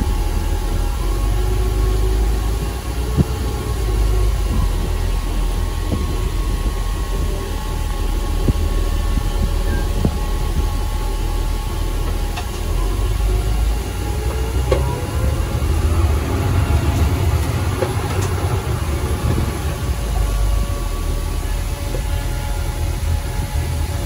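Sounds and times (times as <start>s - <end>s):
truck diesel engine rumble: 0.0s - 24.0s.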